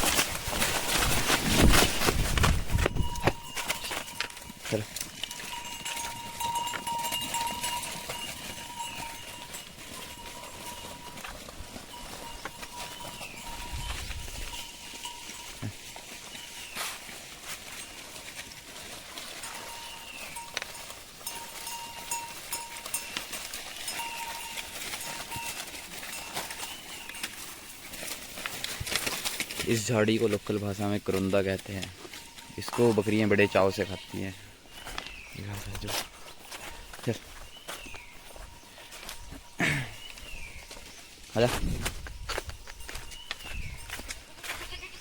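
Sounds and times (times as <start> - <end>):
goats clicking and rustling: 0.0 - 45.0.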